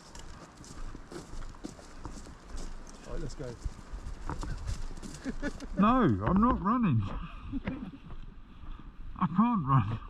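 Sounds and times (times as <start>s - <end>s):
footsteps on woodland floor: 0.0s - 9.0s.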